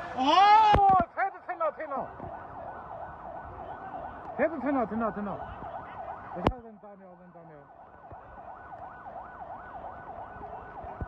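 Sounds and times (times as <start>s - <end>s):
siren yelping: 1.7s - 11.0s.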